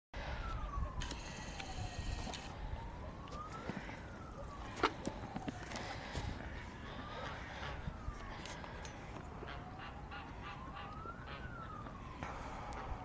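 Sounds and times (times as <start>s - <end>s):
siren wailing: 0.2s - 13.0s.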